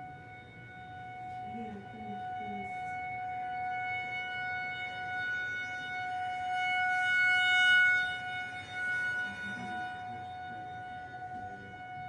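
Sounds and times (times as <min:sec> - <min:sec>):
warning siren steady tone: 0:00.0 - 0:12.0.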